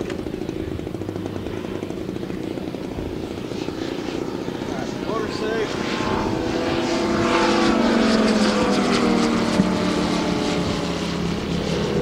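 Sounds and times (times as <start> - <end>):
model plane engine passing overhead: 0.0 - 12.0.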